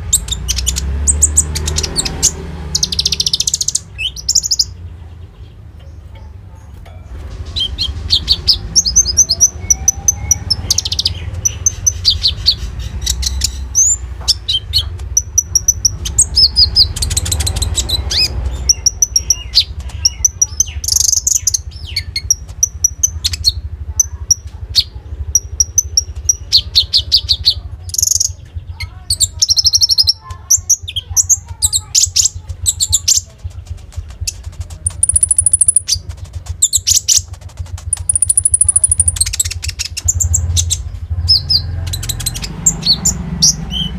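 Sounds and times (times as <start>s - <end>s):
songbird trilling and chirping: 0.0s - 43.9s.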